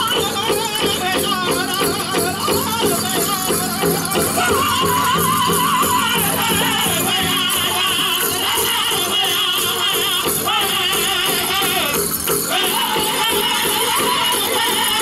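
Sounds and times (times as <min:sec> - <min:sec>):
bells jingling: 0:00.0 - 0:15.0
group singing in high voices: 0:00.0 - 0:15.0
steady drumbeat: 0:00.0 - 0:15.0.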